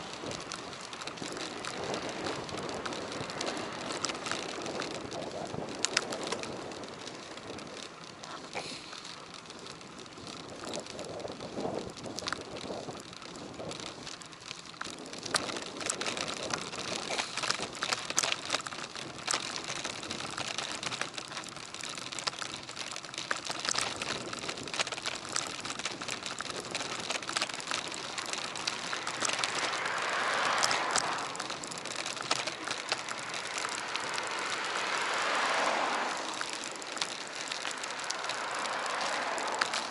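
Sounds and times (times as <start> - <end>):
bicycle tyre and road noise: 0.0 - 39.9
clicks and rattles from bumps: 0.0 - 39.9.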